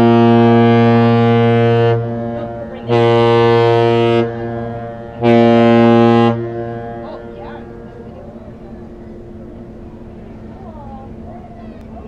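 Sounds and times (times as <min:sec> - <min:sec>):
deep ship horn blasts: 0:00.0 - 0:11.9.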